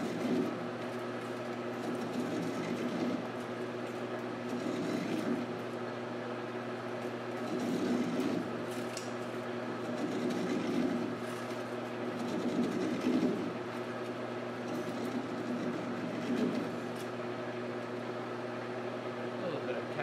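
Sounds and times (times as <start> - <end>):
lathe humming: 0.0 - 20.0.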